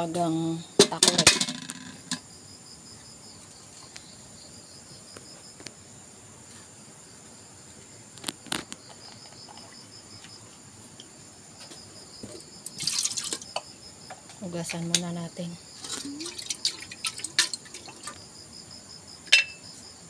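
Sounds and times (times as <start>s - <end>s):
insects trilling chorus: 0.0s - 20.0s.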